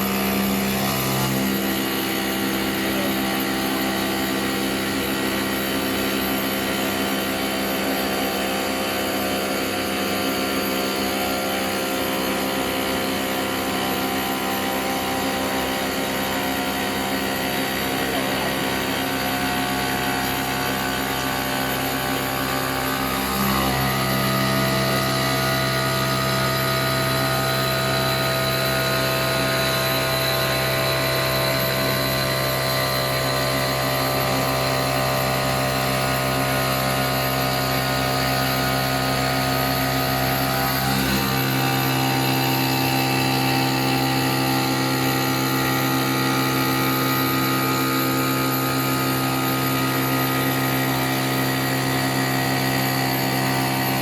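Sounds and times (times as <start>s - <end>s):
cnc router humming and whining: 0.0s - 54.0s.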